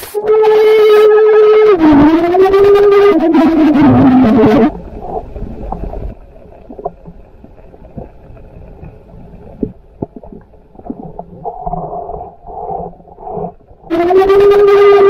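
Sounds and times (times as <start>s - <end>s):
muffled underwater water rumble: 0.0s - 15.0s.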